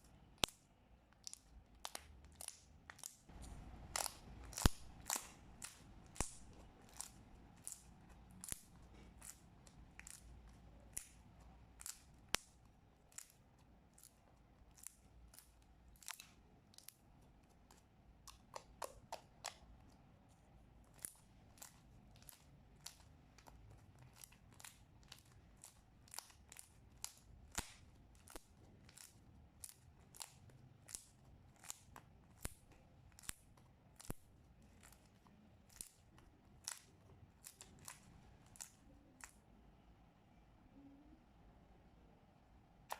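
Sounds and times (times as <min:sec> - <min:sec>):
slime clicking and popping: 0:00.2 - 0:20.0, 0:20.8 - 0:39.4.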